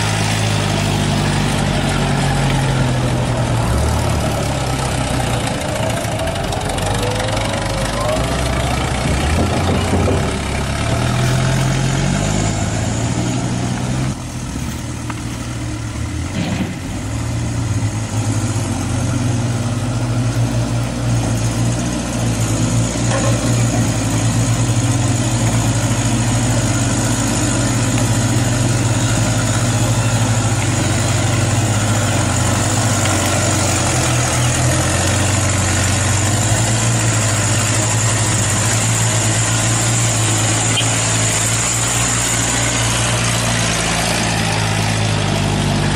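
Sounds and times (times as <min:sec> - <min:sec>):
model truck motor whining hum: 0:00.0 - 0:45.9.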